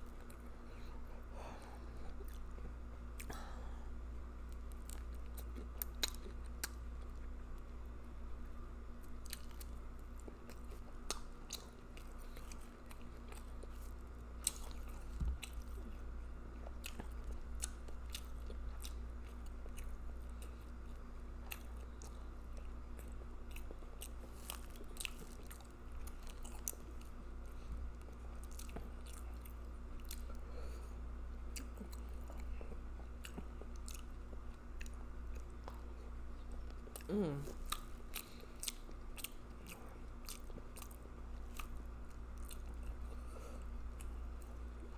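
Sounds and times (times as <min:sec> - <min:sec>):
steady low hum: 0:00.0 - 0:44.9
wet chewing and mouth smacking: 0:04.4 - 0:08.0, 0:09.0 - 0:30.5, 0:31.5 - 0:44.9.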